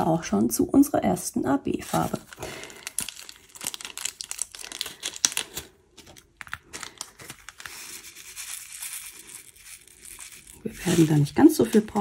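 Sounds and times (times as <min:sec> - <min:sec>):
plastic bag crinkling: 0:01.7 - 0:12.0.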